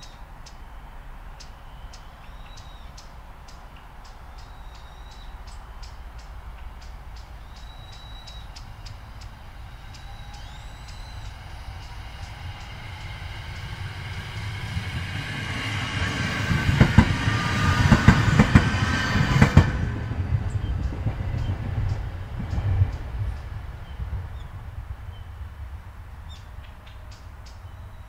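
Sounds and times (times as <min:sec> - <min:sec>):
electric train passing: 0:02.4 - 0:28.0.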